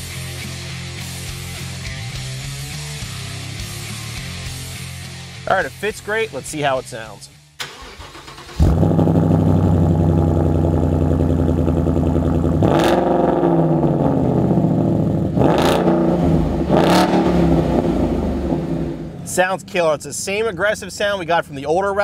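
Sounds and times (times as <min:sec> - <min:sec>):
car engine idling and revving: 0:00.0 - 0:05.3, 0:07.6 - 0:22.0.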